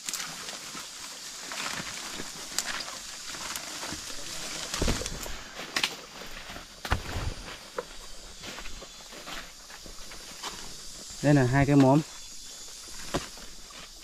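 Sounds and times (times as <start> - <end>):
footsteps outdoors: 0.0 - 14.0
steady high hiss: 0.0 - 14.0.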